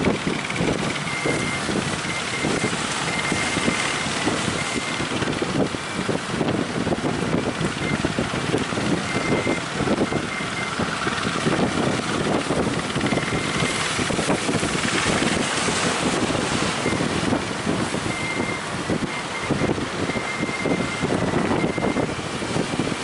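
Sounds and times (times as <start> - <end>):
surf rushing: 0.0 - 23.0
wind buffeting microphone: 0.0 - 23.0.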